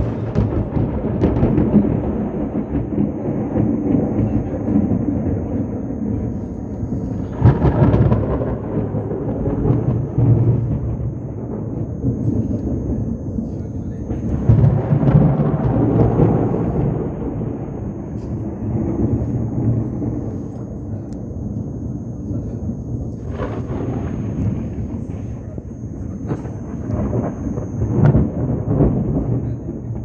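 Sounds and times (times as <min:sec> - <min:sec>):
thunder rumbling: 0:00.0 - 0:30.0.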